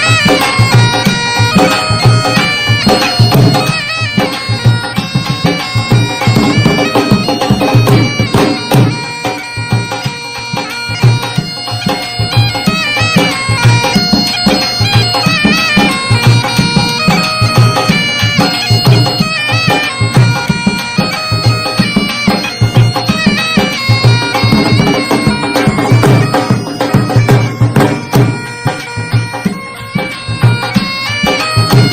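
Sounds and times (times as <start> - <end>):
reedy wind instrument melody: 0.0 - 31.9
steady drum beat: 0.0 - 31.9.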